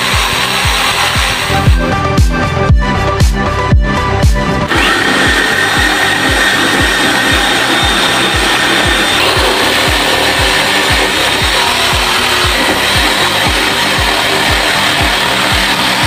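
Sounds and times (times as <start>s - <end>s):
saw blade rasping through wood: 0.0s - 1.9s, 4.7s - 16.0s
dance music with steady beat: 0.1s - 16.0s.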